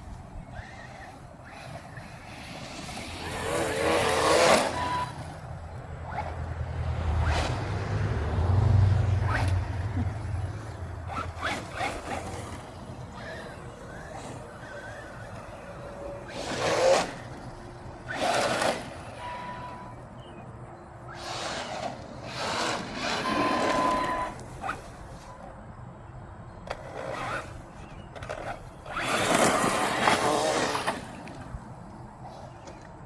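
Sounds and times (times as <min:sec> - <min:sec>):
rc truck electric motor whirring: 0:00.0 - 0:20.4, 0:21.1 - 0:25.5, 0:26.7 - 0:31.8.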